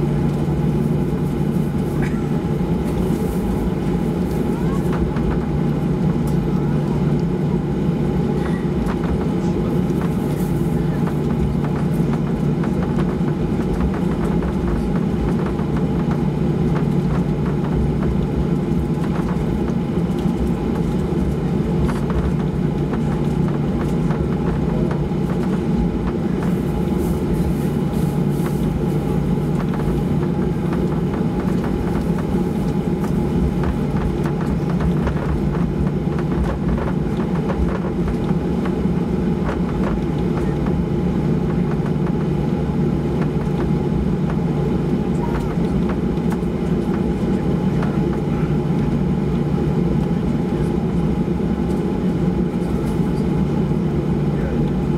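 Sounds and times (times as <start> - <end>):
jet engines droning in cabin: 0.0 - 54.9.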